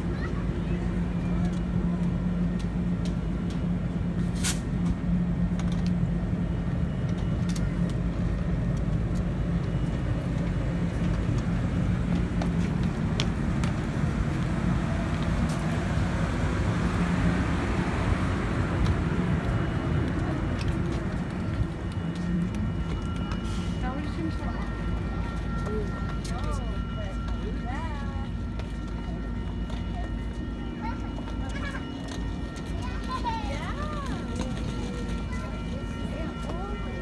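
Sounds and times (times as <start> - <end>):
diesel locomotive idling: 0.0 - 37.0.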